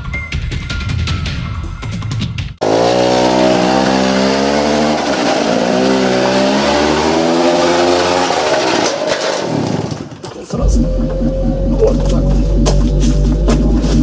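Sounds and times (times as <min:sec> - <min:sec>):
engine running at high revs: 0:02.6 - 0:14.0.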